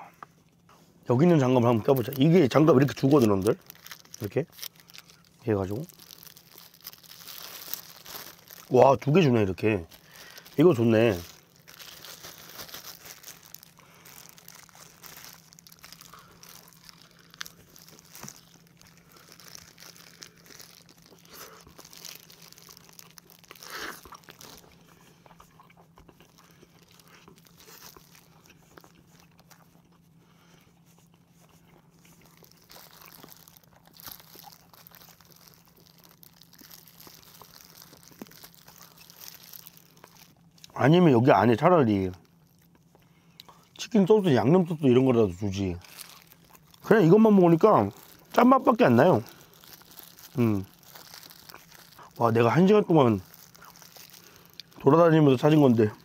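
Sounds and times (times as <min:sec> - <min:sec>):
crunching and chewing: 0:00.0 - 0:56.0
plastic gloves crinkling: 0:00.7 - 0:56.0.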